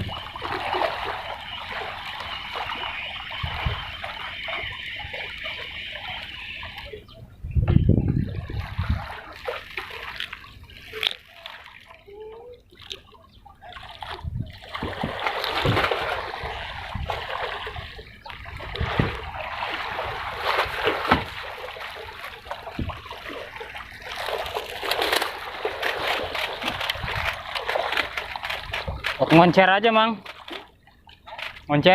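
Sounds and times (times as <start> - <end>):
water splashing and sloshing: 0.0 - 31.9.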